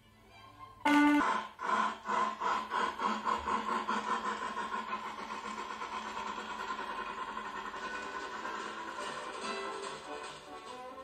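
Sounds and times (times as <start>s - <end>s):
cartoon steam locomotive chuffing: 0.8s - 11.0s.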